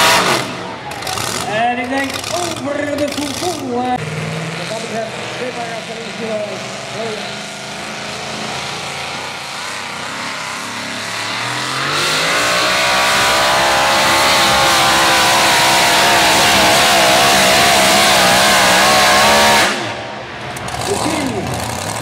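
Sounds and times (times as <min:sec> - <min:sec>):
supercharged engine at full throttle: 0:00.0 - 0:22.0.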